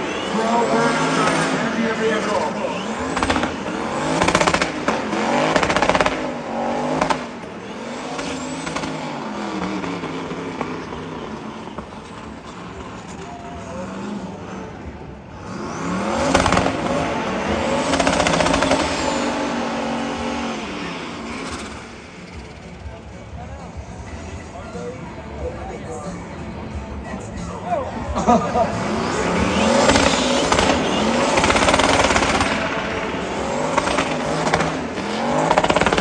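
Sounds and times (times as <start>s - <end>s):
car engine revving hard: 0.0s - 22.7s, 28.4s - 36.0s.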